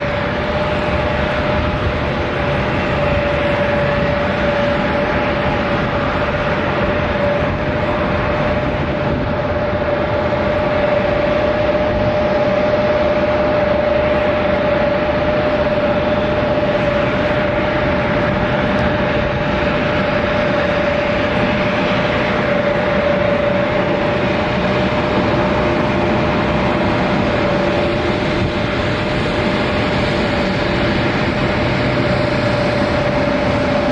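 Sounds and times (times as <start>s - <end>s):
jet engines running: 0.0s - 33.9s.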